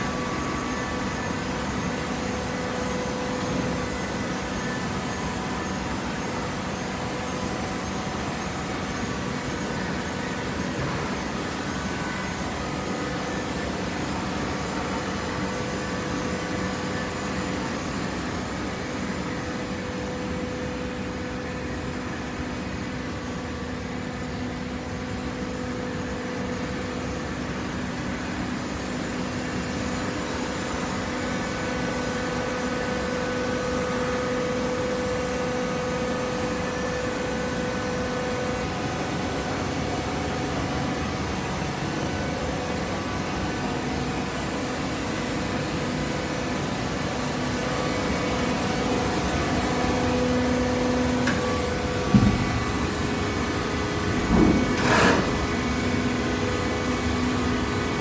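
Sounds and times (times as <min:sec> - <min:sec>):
hydraulic motor and pump humming: 0:00.0 - 0:58.0.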